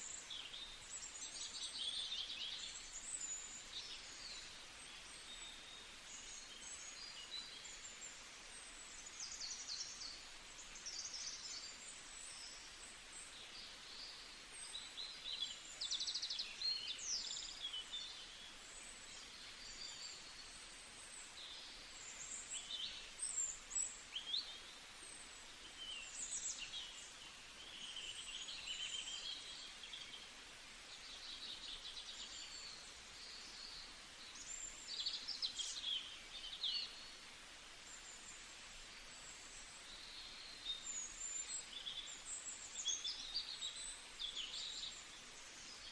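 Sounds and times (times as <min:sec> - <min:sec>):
outdoor background hiss: 0:00.0 - 0:45.9
small birds chirping: 0:00.0 - 0:45.9.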